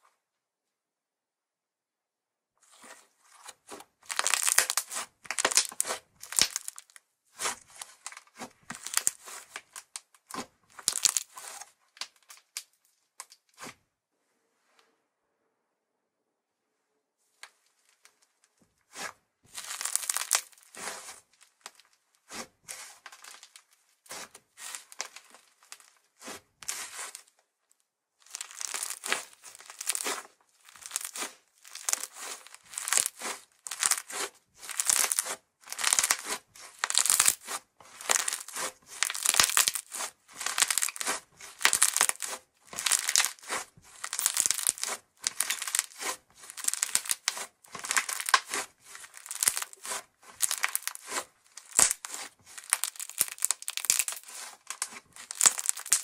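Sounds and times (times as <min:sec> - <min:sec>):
slime tearing and crumpling by hand: 0:04.0 - 0:13.7, 0:18.9 - 0:27.3, 0:28.2 - 0:56.0.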